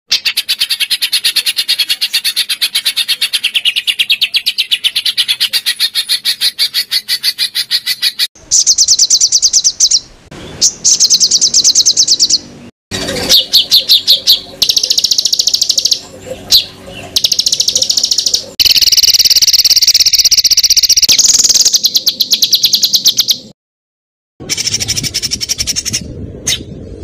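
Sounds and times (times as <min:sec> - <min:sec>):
songbird trilling: 0:00.1 - 0:12.5, 0:13.1 - 0:23.5.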